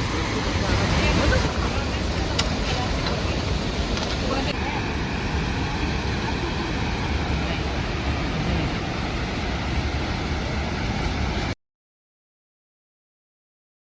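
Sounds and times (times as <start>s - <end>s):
waterfall roaring: 0.0s - 11.6s.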